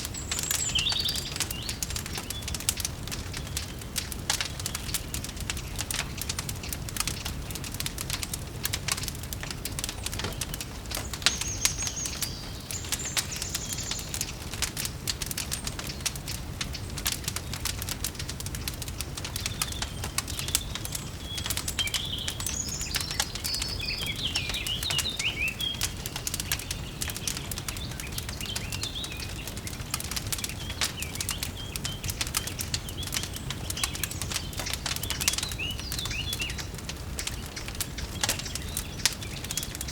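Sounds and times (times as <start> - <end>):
birds chirping: 0.0 - 39.9
wood fire crackling: 0.0 - 39.9.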